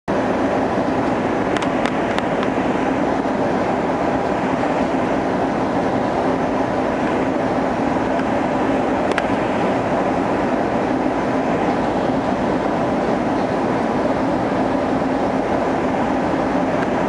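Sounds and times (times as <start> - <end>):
airliner cabin engine rumble: 0.1 - 17.0.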